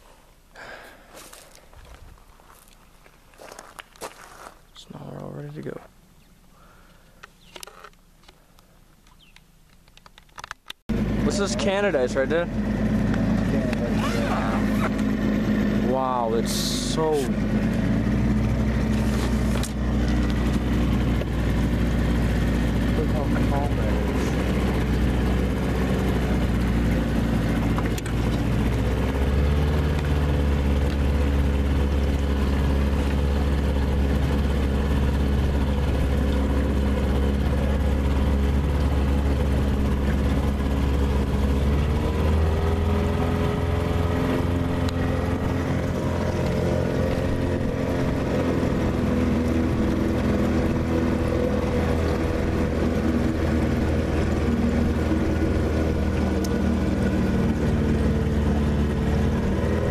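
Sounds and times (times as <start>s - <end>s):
outboard motor running: 10.9s - 59.9s.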